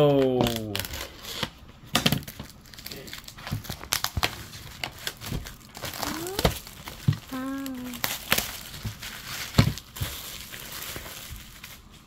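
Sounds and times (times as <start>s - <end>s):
plastic shrink wrap crinkling: 0.2s - 12.0s.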